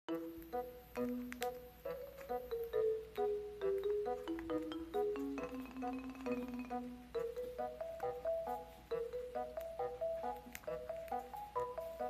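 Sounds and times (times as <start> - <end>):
light melody of struck notes: 0.1 - 12.0.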